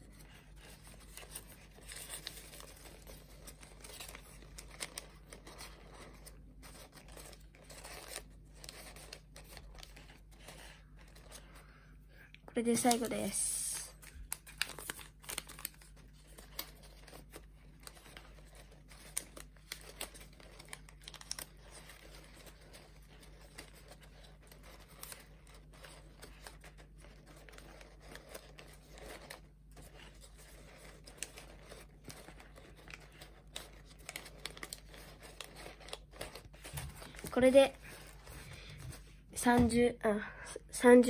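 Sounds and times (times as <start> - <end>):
paper crinkling and rustling: 0.0 - 11.7, 12.6 - 39.8.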